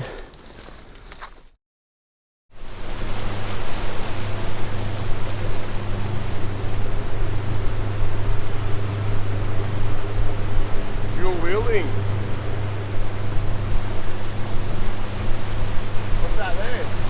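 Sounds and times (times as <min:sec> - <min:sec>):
outboard motor running: 0:02.6 - 0:17.0
water rushing past: 0:02.7 - 0:17.0.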